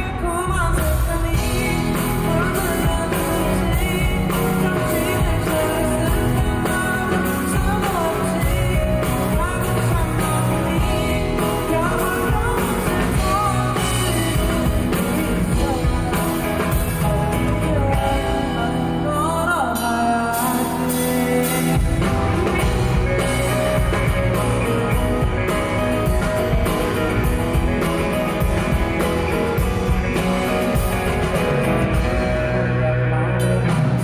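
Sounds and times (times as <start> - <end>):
drum kit beat: 0.0 - 19.0, 19.8 - 32.7
bass guitar: 0.0 - 34.0
guitar: 0.0 - 34.0.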